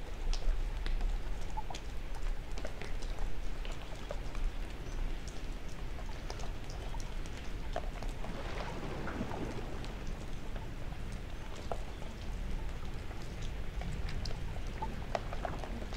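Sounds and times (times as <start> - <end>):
faint ticks and clicks: 0.0 - 15.9.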